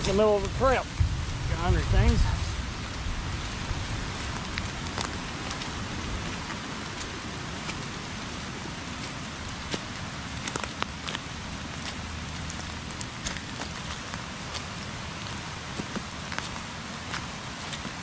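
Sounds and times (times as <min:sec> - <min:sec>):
heavy rain falling: 0:00.0 - 0:18.0
raindrops tapping close by: 0:00.0 - 0:18.0.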